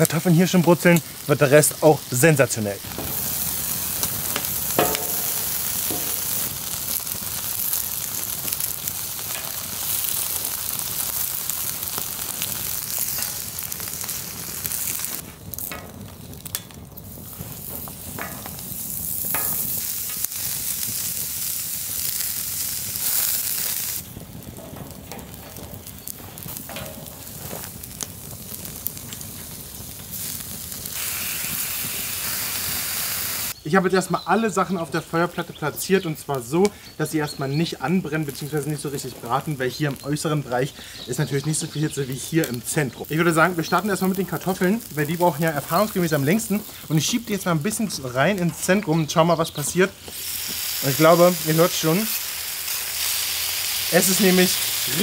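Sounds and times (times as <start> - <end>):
potatoes sizzling in oil: 0.0 - 55.0.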